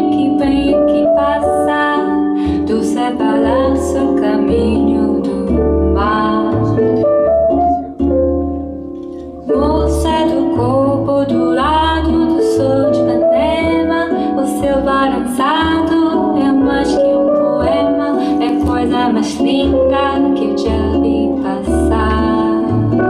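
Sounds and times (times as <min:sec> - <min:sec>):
bossa nova music over loudspeakers: 0:00.0 - 0:23.0.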